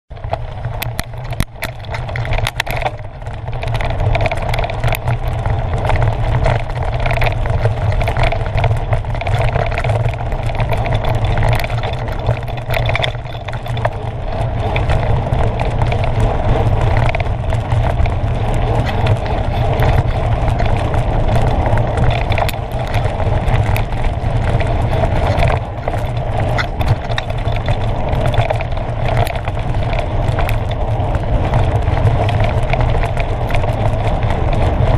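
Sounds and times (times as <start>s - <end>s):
rumble and rattle of dirt trail ride: 0.1s - 34.9s
sharp clicks and knocks: 0.1s - 34.9s
wind buffeting microphone: 0.1s - 34.9s.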